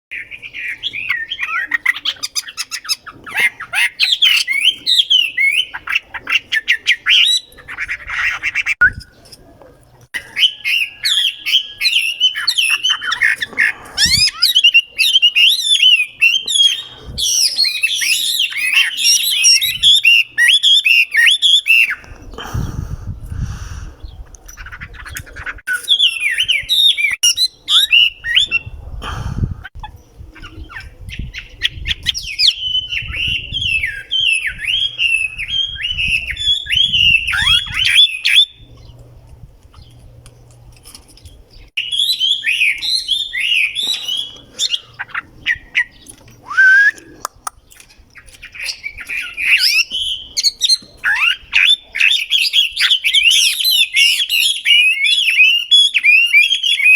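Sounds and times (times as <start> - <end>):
bird chirping: 0.1 - 22.9, 29.7 - 56.9.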